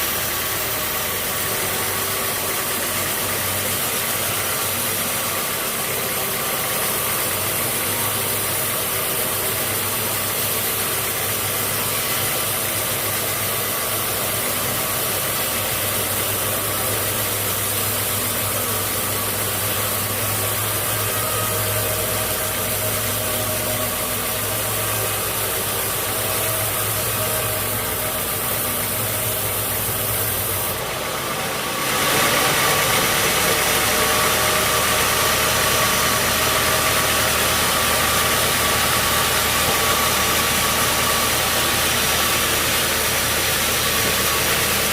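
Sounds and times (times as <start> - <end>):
sawmill machinery running: 0.0 - 44.9.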